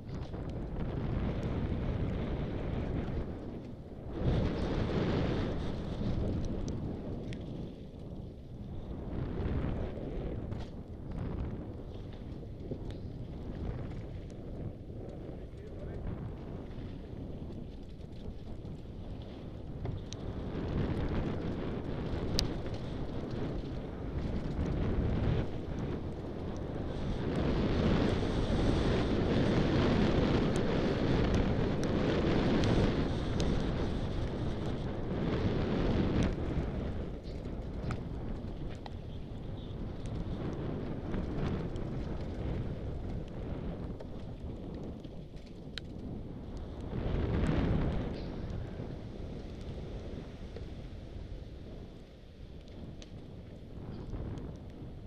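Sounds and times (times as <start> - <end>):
low rumble of riding: 0.0 - 55.0
wind buffeting microphone: 0.0 - 55.0.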